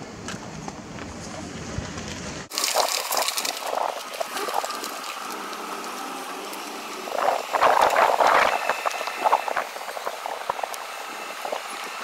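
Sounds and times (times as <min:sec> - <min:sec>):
tyres crunching on gravel: 0:00.2 - 0:12.0.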